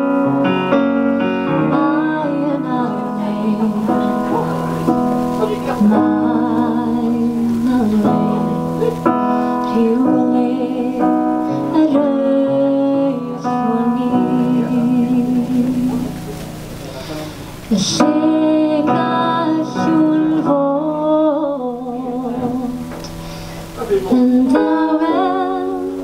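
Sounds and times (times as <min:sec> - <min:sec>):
electric keyboard piano chords: 0:00.0 - 0:26.0
woman singing: 0:01.5 - 0:04.5, 0:05.8 - 0:16.3, 0:17.7 - 0:23.2, 0:24.0 - 0:26.0.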